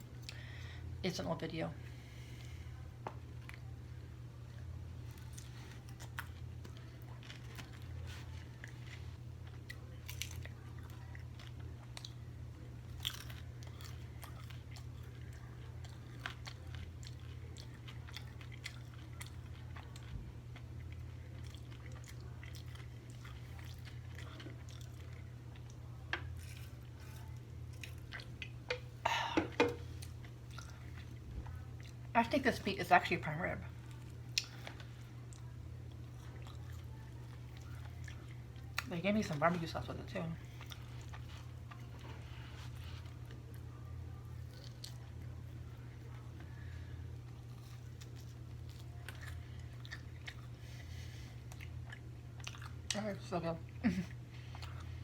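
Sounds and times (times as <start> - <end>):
chewing and crunching food: 0.0 - 0.9, 1.8 - 55.0.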